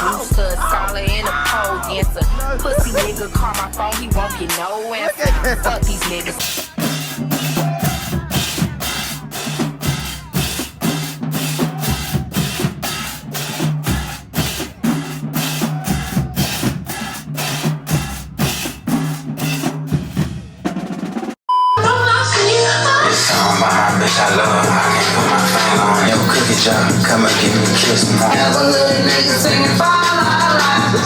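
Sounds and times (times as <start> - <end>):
instrumental music with drum beat: 0.0 - 21.5, 23.2 - 31.0.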